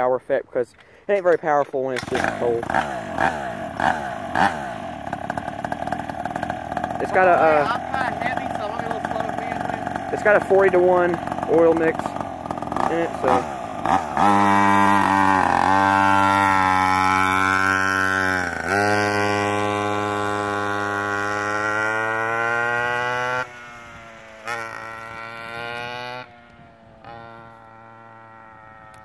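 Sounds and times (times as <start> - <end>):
two-stroke engine at full throttle: 1.9 - 29.0.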